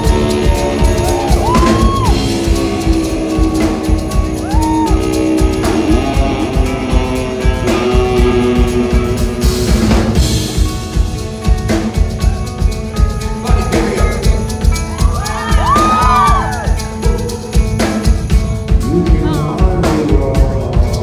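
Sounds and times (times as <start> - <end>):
drum kit steady beat: 0.0 - 21.0
electric guitars sliding notes: 0.0 - 21.0
rock band playing live: 0.0 - 21.0.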